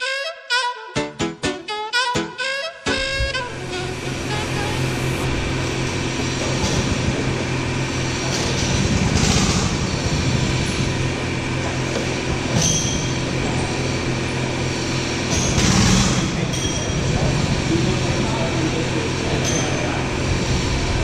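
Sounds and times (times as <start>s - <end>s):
go-kart engines idling: 3.5s - 21.0s.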